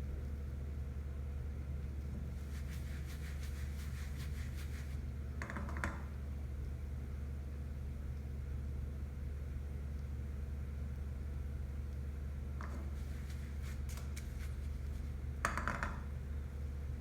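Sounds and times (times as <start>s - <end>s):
steady low hum: 0.0s - 5.4s, 6.0s - 17.0s.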